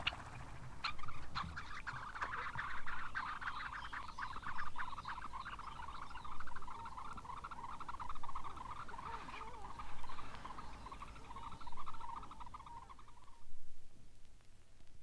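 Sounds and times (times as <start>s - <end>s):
birds chattering calls: 0.0s - 13.5s.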